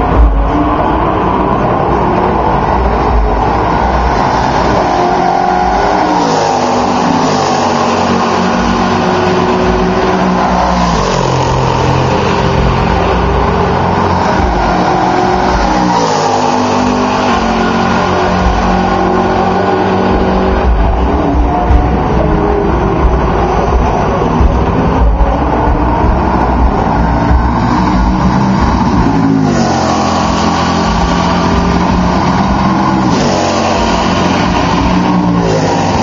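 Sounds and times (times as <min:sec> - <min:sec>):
race cars passing by: 0:00.0 - 0:36.0.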